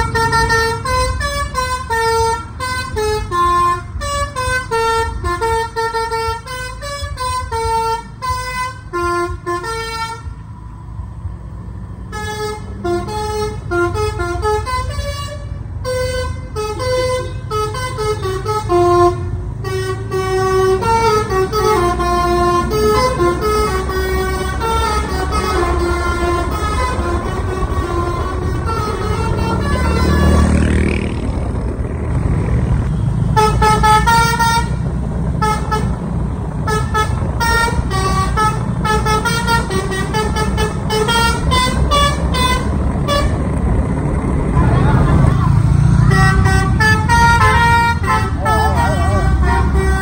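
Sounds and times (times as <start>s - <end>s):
multi-tone bus air horn melody: 0.0s - 10.6s, 12.0s - 30.8s, 32.9s - 43.6s, 44.8s - 50.0s
low engine rumble: 0.0s - 50.0s.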